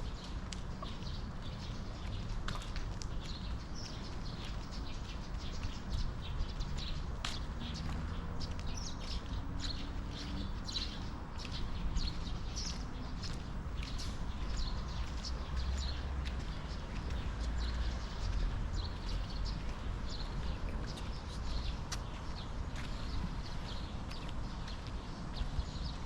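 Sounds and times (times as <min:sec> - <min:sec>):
low outdoor rumble: 0:00.0 - 0:25.4
birds chirping: 0:00.0 - 0:25.8
footsteps on pavement: 0:00.0 - 0:26.0.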